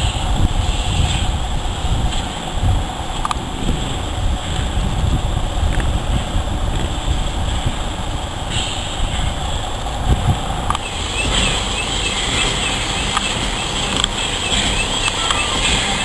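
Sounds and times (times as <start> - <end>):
steam locomotive rumbling: 0.0 - 16.0.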